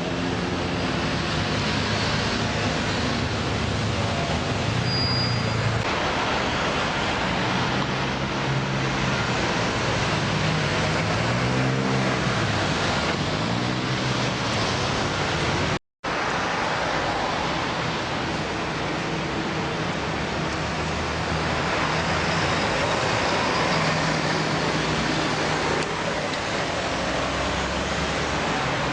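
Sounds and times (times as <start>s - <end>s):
road traffic engine and tyre noise: 0.0s - 28.9s
vehicles pulling away and passing: 0.0s - 28.9s.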